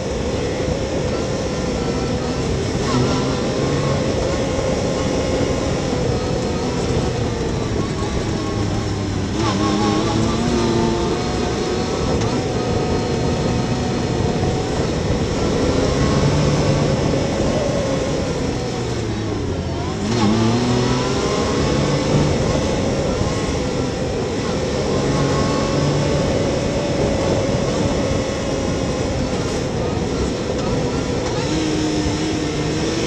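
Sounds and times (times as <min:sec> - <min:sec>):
vehicle engine accelerating: 0:00.0 - 0:33.0.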